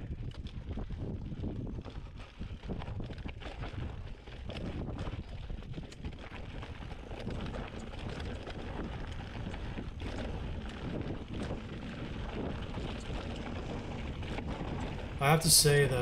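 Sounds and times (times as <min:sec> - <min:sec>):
bike tyre rumble: 0:00.0 - 0:16.0
wind buffeting microphone: 0:00.0 - 0:16.0.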